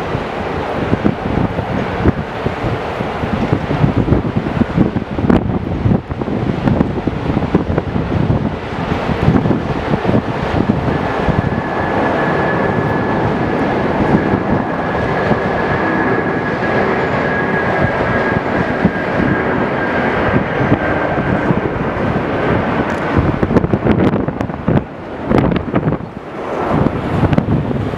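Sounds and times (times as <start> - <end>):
jet engines passing: 0.0 - 27.9
wind on microphone: 0.0 - 27.9.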